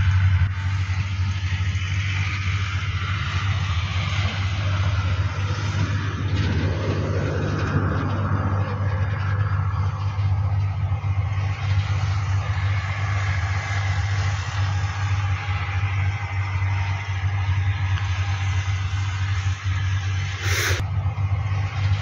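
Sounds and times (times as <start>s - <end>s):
pump engine droning: 0.0s - 22.0s.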